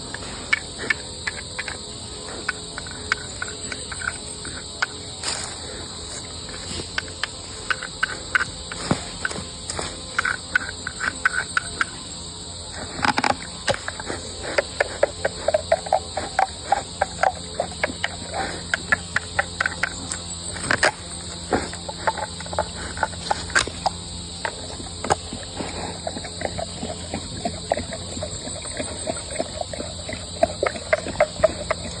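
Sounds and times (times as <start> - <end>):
bear chewing a coconut: 0.0 - 32.0
crickets chirping: 0.0 - 32.0.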